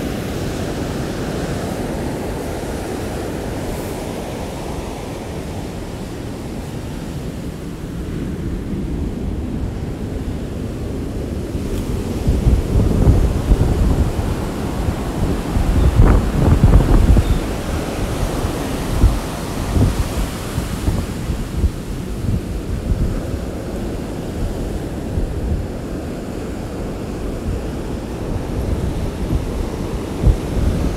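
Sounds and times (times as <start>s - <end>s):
ocean surf washing in: 0.0s - 30.9s
wind rumbling on microphone: 0.0s - 30.9s.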